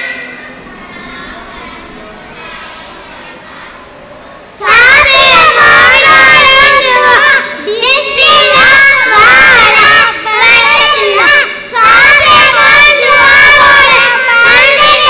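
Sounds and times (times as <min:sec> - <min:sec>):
boys singing through pa: 0:00.0 - 0:15.0.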